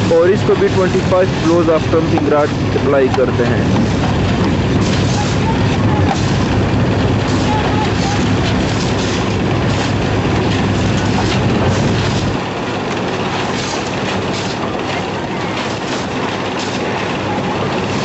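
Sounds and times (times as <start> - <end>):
loud machine rumble: 0.0 - 18.0.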